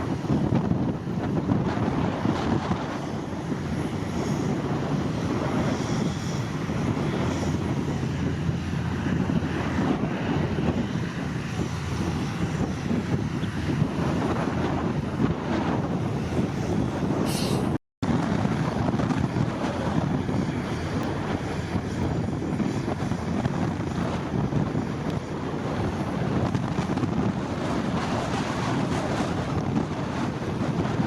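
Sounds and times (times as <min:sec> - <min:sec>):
heavy diesel machinery running: 0:00.0 - 0:31.0.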